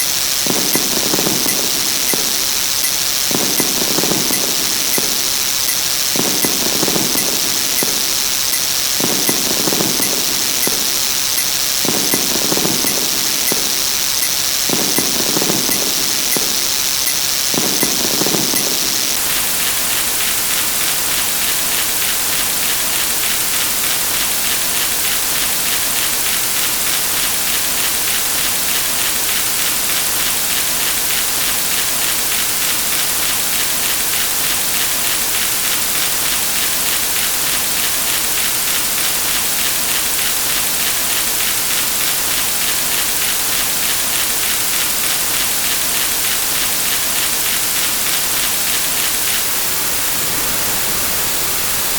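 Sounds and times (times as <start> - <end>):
dense static hiss: 0.0 - 51.9.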